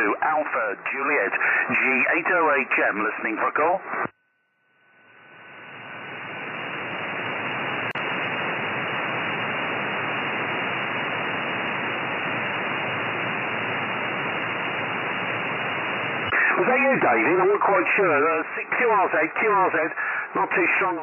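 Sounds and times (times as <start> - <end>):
radio receiver hiss: 0.0 - 4.1, 5.0 - 21.0.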